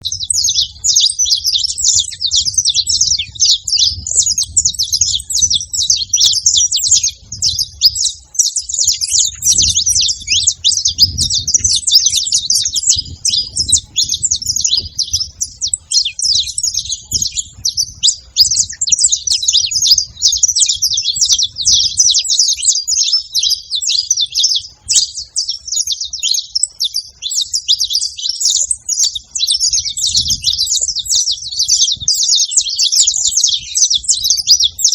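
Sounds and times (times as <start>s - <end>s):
finches singing and chirping: 0.0s - 34.9s.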